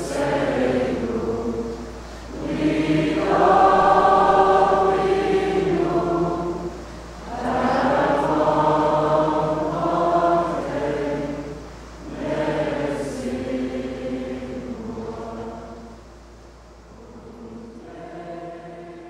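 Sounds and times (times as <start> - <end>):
choir of young voices singing: 0.0 - 16.1, 16.9 - 19.0.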